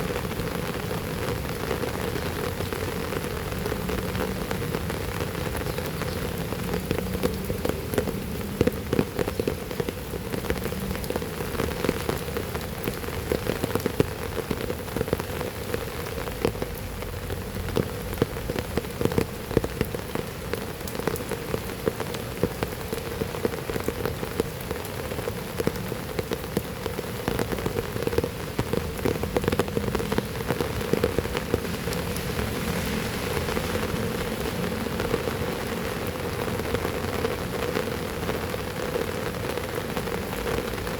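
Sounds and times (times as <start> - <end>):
heavy rain on hard surface: 0.0 - 40.9.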